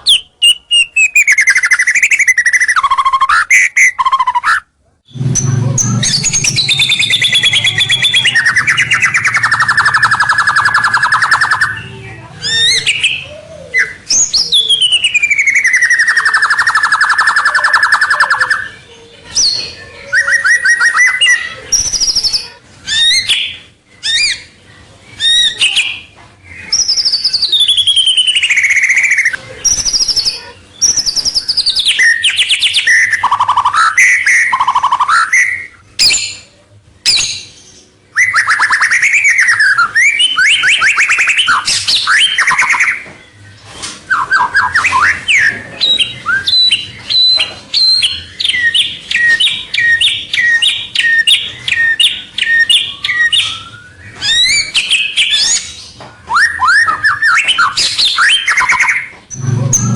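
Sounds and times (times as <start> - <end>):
bird singing whistled phrases: 0.0 - 24.6, 25.2 - 36.4, 37.0 - 43.1, 44.1 - 59.9.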